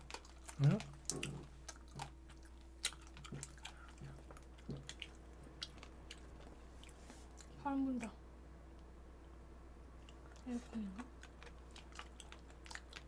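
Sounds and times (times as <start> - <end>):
people chewing: 0.0 - 8.1, 10.0 - 13.0.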